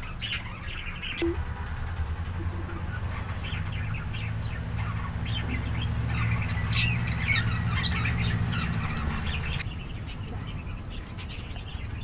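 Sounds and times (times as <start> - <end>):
budgerigars chattering: 1.9 - 12.0.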